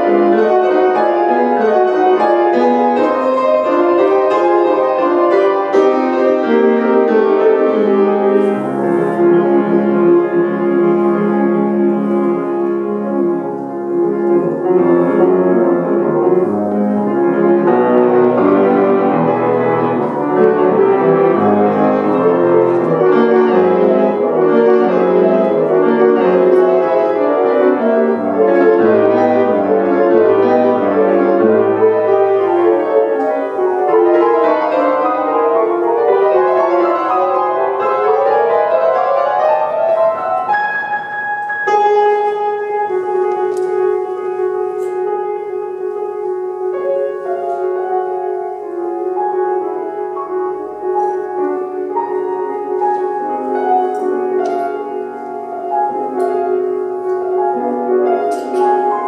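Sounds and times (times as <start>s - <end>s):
solo piano playing: 0.0s - 59.0s.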